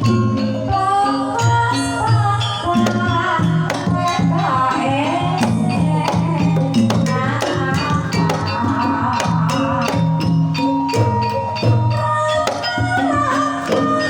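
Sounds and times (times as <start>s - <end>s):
gamelan ensemble playing: 0.0s - 14.0s
woman singing ornamented lines: 0.0s - 14.0s.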